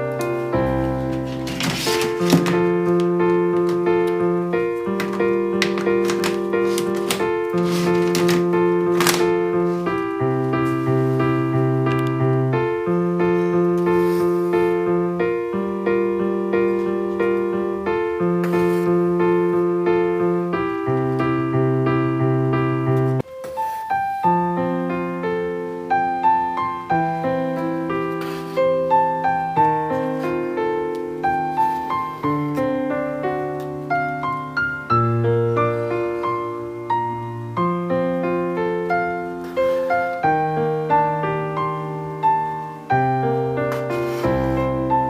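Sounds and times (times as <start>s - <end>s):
gentle piano music: 0.0s - 45.0s.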